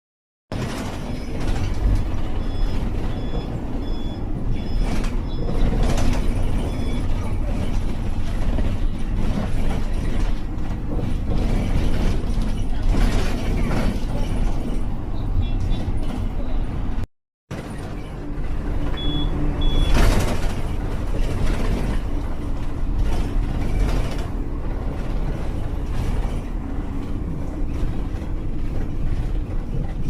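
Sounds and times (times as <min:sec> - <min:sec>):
machine rumbling and rattling: 0:00.5 - 0:30.0.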